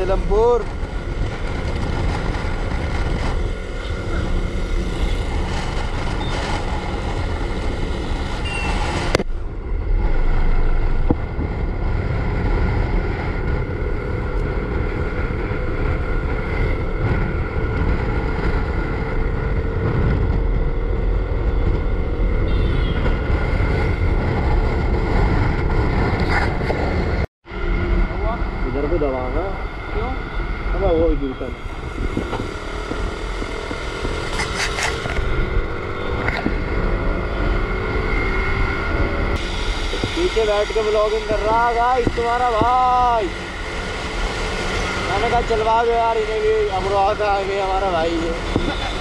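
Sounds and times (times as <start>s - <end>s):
wind on microphone: 0.0s - 28.8s, 29.4s - 49.0s.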